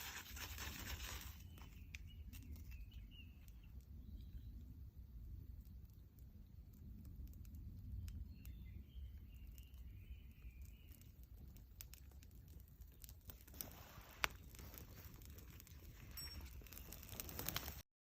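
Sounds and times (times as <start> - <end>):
campfire crackling and snapping: 0.0 - 17.8
low wind rumble: 0.4 - 17.7.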